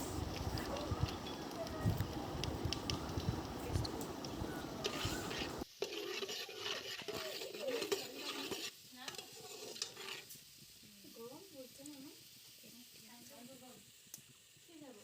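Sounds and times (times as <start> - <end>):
spices frying in oil: 0.0 - 15.0.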